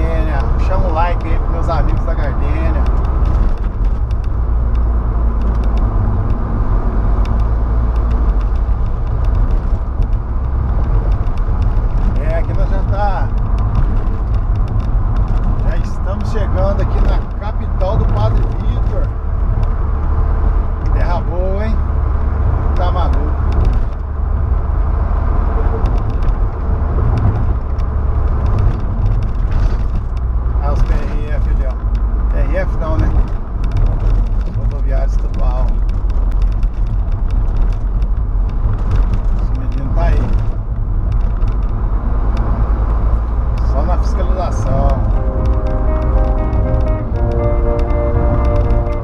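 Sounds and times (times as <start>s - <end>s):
engine and road rumble: 0.0s - 49.0s
faint clicks and ticks: 0.0s - 49.0s
tyre noise: 0.0s - 49.0s.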